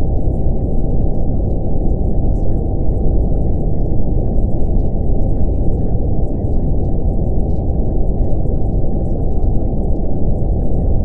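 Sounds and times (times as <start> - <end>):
steady brown noise: 0.0 - 11.0.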